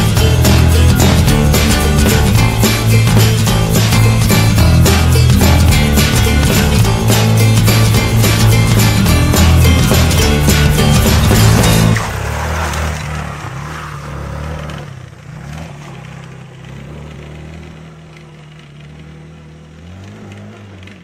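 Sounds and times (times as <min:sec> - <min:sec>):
motorcycle engine running: 0:00.0 - 0:12.0, 0:14.7 - 0:21.0.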